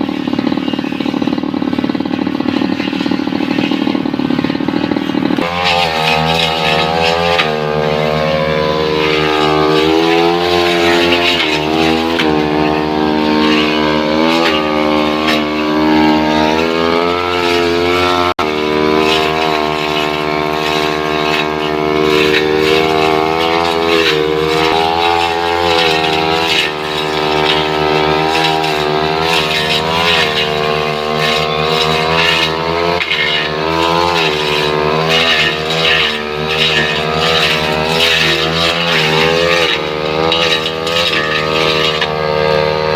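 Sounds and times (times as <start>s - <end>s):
brush cutter engine revving: 0.0s - 42.9s.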